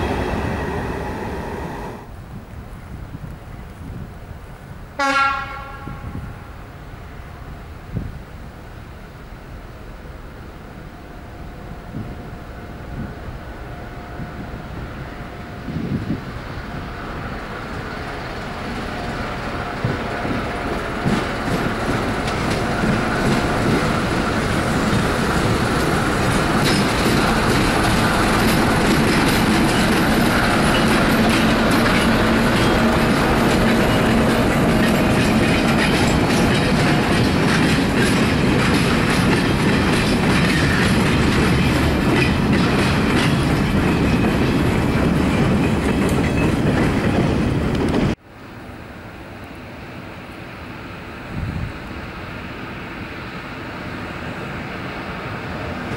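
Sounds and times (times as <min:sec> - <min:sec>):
diesel locomotive engine: 0:00.0 - 0:55.9.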